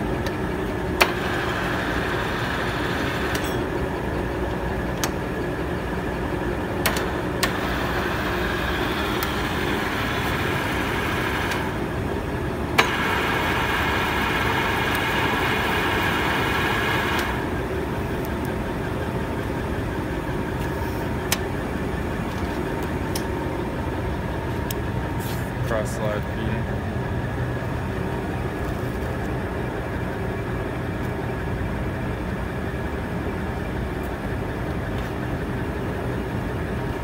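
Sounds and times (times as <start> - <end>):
gear whine: 0.0 - 37.0
lathe humming: 0.0 - 37.0.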